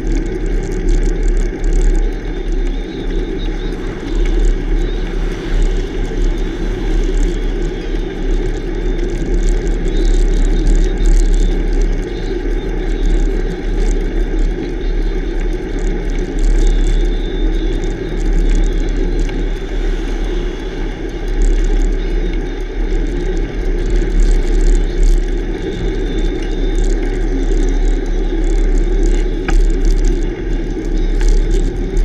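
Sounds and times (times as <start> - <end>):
tyre and road noise: 0.0 - 32.0
wind rushing over microphone: 0.0 - 32.0.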